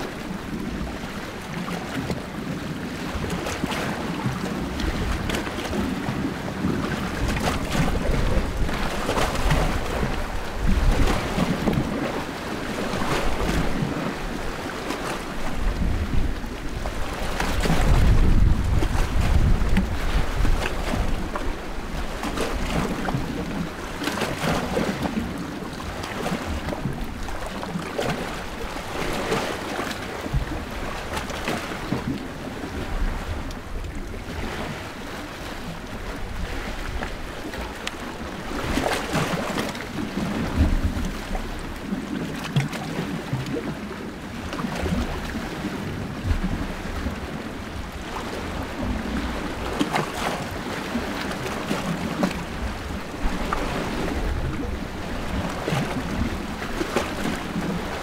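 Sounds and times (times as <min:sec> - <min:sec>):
small waves washing on shore: 0:00.0 - 0:58.0.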